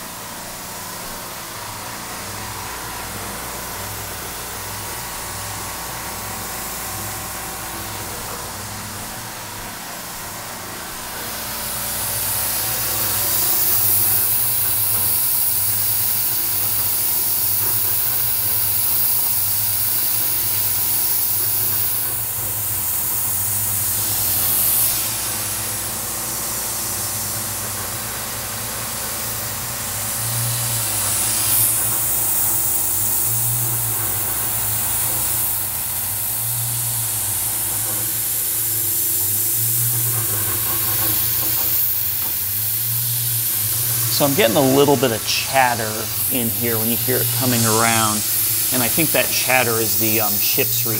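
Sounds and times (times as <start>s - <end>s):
mill cutting steel: 0.0s - 50.9s
mist coolant nozzle hissing: 3.3s - 50.9s.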